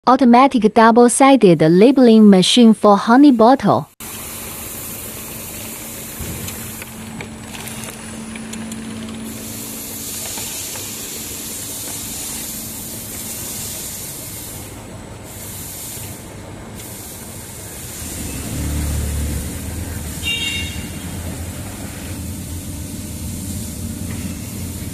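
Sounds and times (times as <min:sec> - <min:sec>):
faint machine hum: 0:00.3 - 0:24.9
labeling machine hissing: 0:04.0 - 0:24.9.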